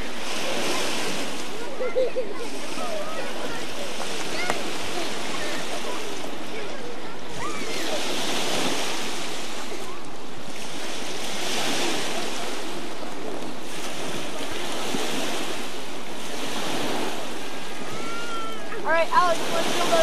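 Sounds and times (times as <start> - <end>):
small waves washing ashore: 0.0 - 20.0.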